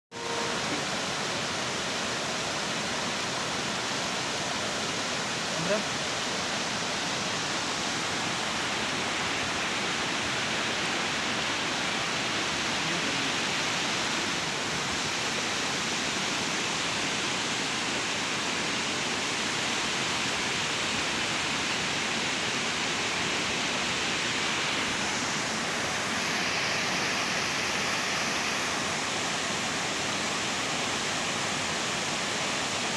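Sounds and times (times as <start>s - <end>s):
water rushing over rocks: 0.2s - 32.9s.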